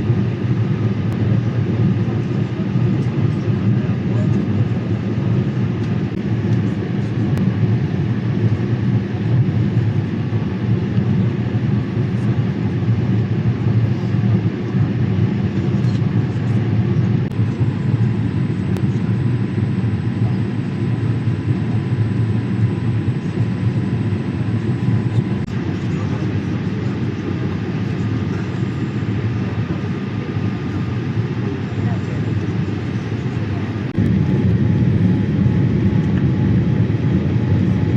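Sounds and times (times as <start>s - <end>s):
airliner cabin engine rumble: 0.0s - 37.9s.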